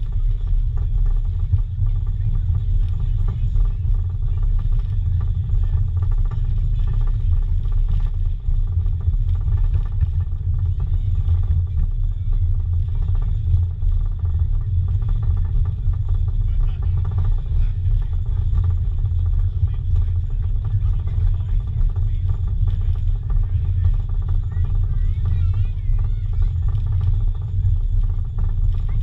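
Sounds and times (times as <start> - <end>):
fine rapid rattle: 0.0 - 29.0.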